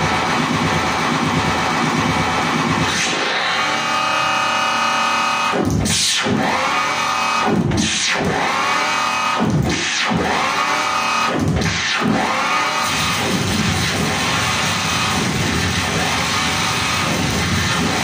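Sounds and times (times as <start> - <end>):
harsh distorted noise electronics: 0.0 - 18.0.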